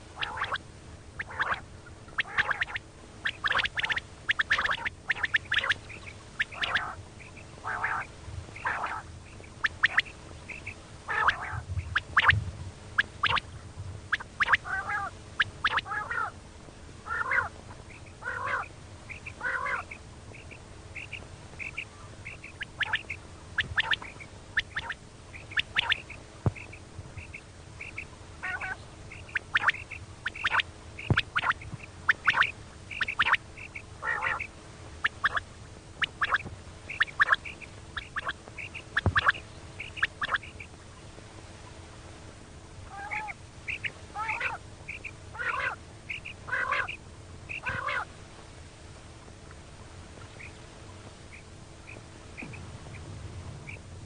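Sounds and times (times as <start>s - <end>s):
quail calling: 0.0s - 0.6s, 1.2s - 12.4s, 13.0s - 13.5s, 14.1s - 16.4s, 17.0s - 40.8s, 42.8s - 48.1s.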